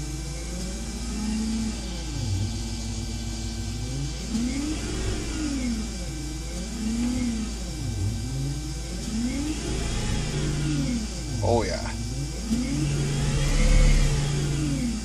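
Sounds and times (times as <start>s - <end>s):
electric motor whine revving: 0.0s - 15.0s.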